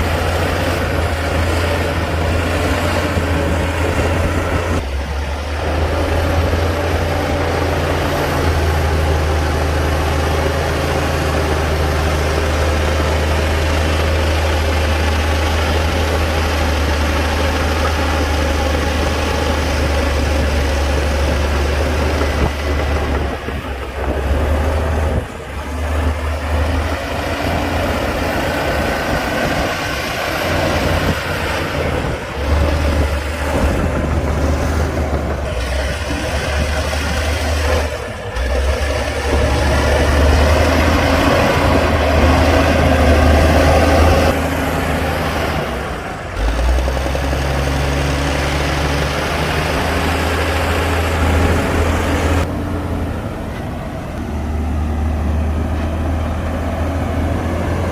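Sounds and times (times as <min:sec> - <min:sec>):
bulldozer diesel engine drone: 0:00.0 - 0:57.9.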